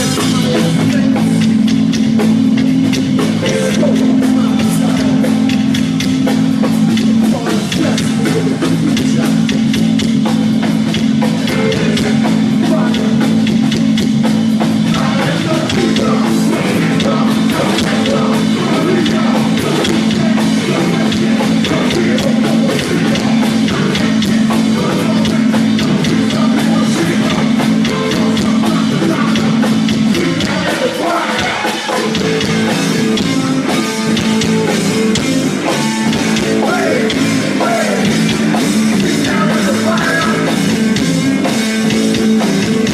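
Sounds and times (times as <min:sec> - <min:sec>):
bass guitar: 0:00.0 - 0:42.9
drum kit: 0:00.0 - 0:42.9
electric guitar: 0:00.0 - 0:42.9.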